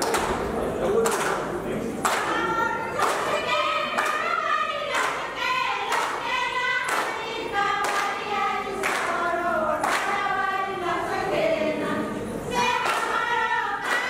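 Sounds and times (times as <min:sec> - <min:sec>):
voices singing in unison: 0:02.1 - 0:14.0.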